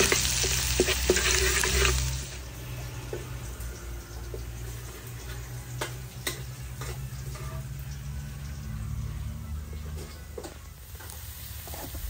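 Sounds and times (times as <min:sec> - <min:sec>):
eels sizzling in pan: 0:00.0 - 0:09.0, 0:10.8 - 0:12.0.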